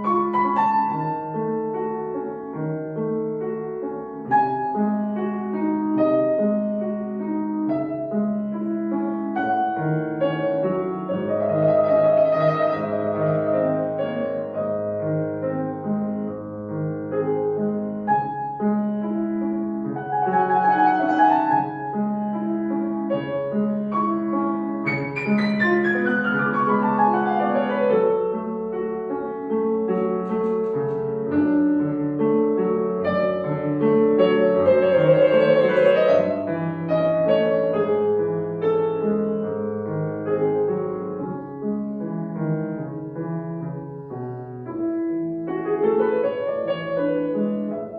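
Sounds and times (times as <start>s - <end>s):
solo piano classical piece: 0.0s - 47.9s.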